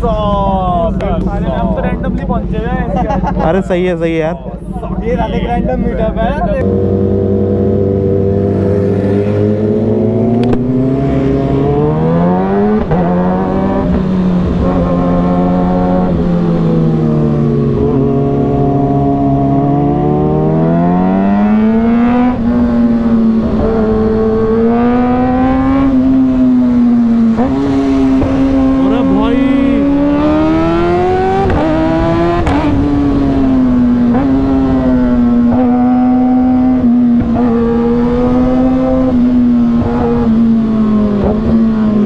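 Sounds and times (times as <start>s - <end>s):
motorcycle engine: 0.0s - 42.0s.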